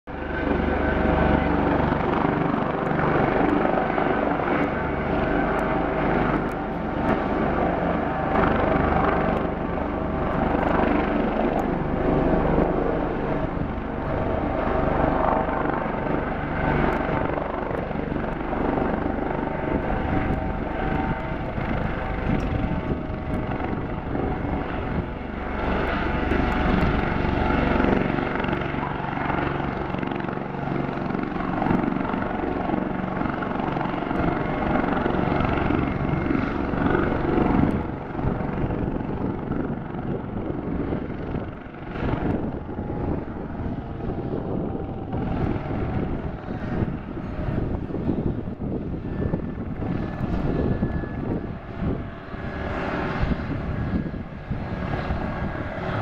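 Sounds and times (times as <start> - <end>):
helicopter hovering: 0.1 - 56.0.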